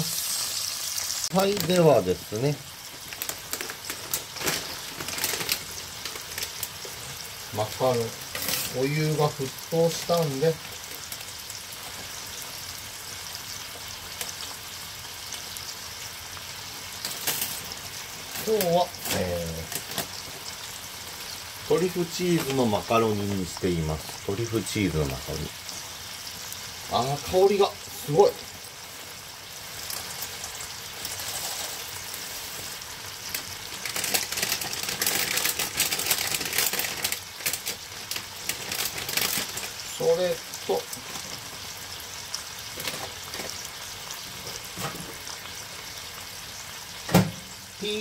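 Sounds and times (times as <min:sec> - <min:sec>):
meat sizzling in a frying pan: 0:00.0 - 0:48.0.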